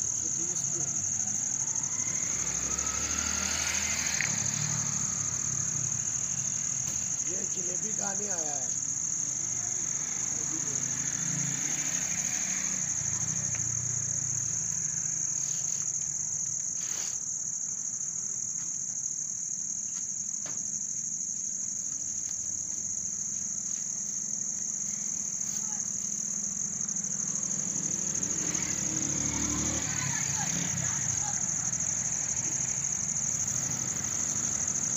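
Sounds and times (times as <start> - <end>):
crickets chirring: 0.0 - 34.9.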